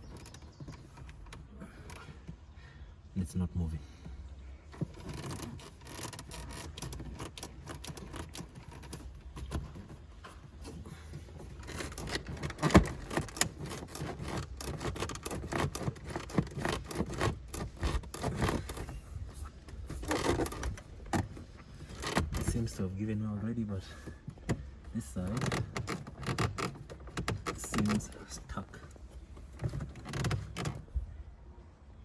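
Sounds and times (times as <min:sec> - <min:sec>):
plastic scraping and clicking: 0:00.0 - 0:02.5, 0:04.0 - 0:23.0, 0:23.8 - 0:31.0.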